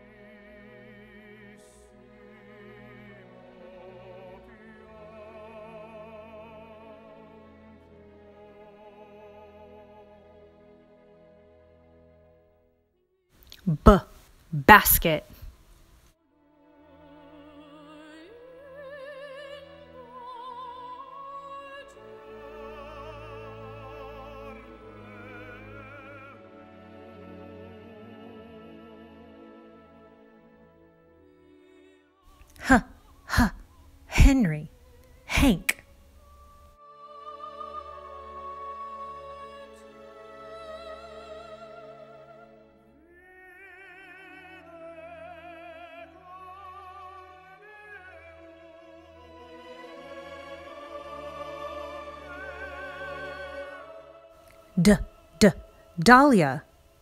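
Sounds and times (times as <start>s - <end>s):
operatic classical music: 0.0s - 12.6s, 16.4s - 32.1s, 33.0s - 56.4s.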